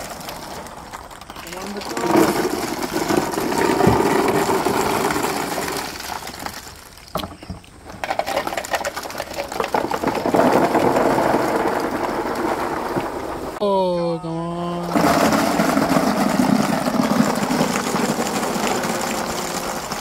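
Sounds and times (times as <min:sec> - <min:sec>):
plastic balls pouring and clattering: 0:00.0 - 0:07.2, 0:07.9 - 0:13.6, 0:14.9 - 0:20.0.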